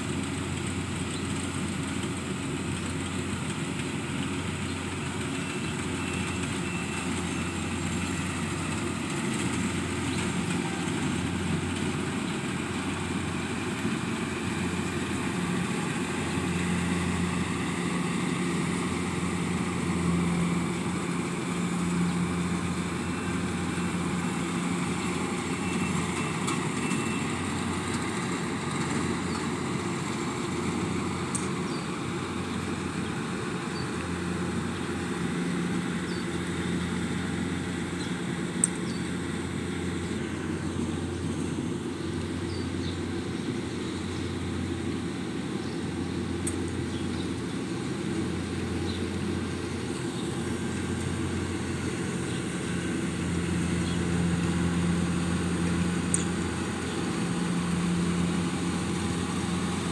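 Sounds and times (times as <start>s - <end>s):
combine harvester engine running: 0.0s - 59.9s.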